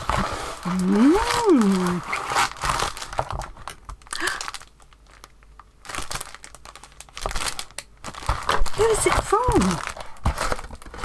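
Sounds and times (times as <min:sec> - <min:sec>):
cardboard and plastic crinkling: 0:00.0 - 0:11.0.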